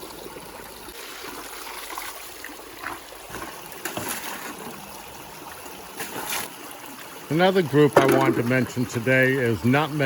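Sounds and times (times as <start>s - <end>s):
river water running: 0.0s - 10.0s
water splashes: 0.0s - 10.0s.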